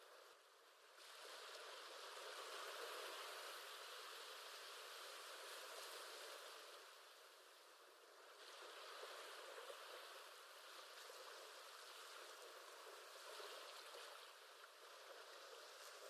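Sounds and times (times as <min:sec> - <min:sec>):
faint ocean waves: 0:00.0 - 0:16.0.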